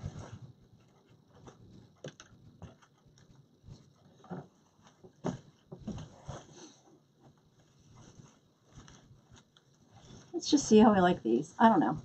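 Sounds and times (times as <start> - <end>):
hands rustling decorations: 0.0 - 12.0.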